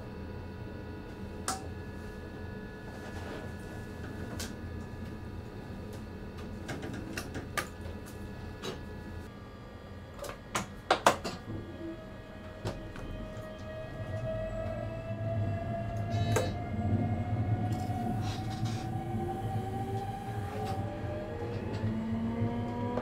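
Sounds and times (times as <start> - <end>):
train cab hum: 0.0 - 9.4, 10.4 - 23.0.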